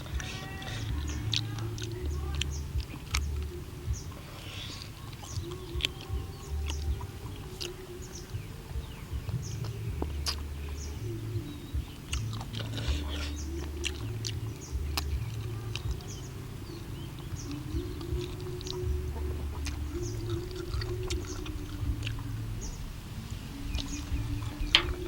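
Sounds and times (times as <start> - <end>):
birds chirping: 0.0 - 25.0
chewing with small clicks: 0.0 - 25.0
low uneven hum: 0.0 - 25.0.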